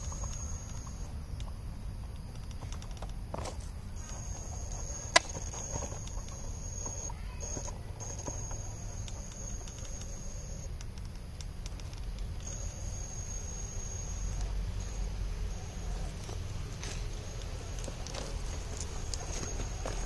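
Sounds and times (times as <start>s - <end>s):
steady high whine: 0.0s - 20.0s.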